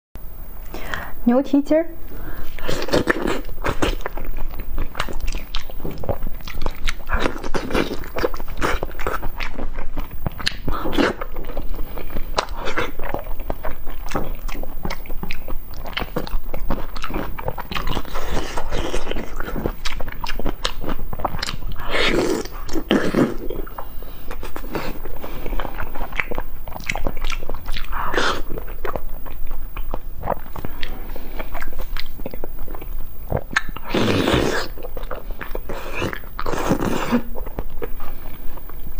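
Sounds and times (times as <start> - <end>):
wet chewing and lip-smacking: 2.2 - 38.8.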